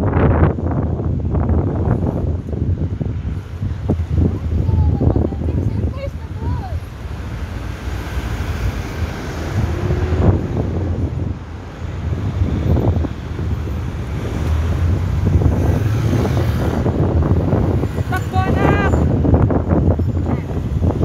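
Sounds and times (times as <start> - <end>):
road traffic: 0.0 - 21.0
wind rumbling on microphone: 0.0 - 21.0.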